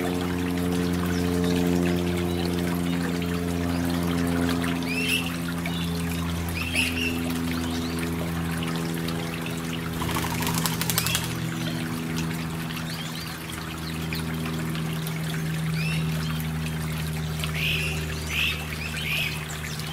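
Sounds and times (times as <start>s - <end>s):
water trickling: 0.0s - 19.9s.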